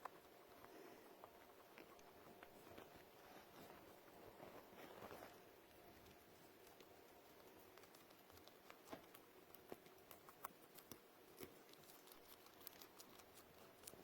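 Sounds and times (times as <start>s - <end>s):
small pet chewing food: 0.0s - 14.0s.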